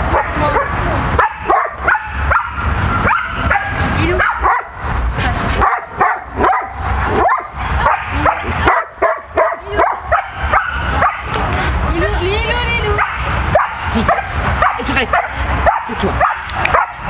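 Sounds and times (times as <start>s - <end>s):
dog barking and yipping: 0.1s - 4.8s, 5.6s - 11.4s, 13.0s - 17.0s.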